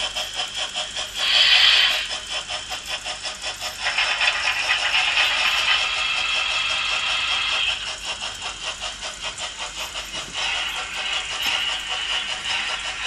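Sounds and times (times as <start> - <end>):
model train wheels clicking: 0.0 - 13.0.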